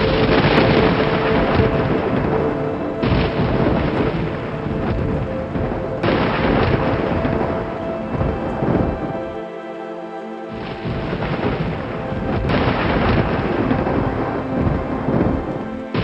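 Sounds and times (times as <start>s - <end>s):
thunder rumbling: 0.0s - 9.4s, 10.5s - 16.0s
faint sustained music tones: 0.0s - 16.0s
steady rain: 0.0s - 16.0s.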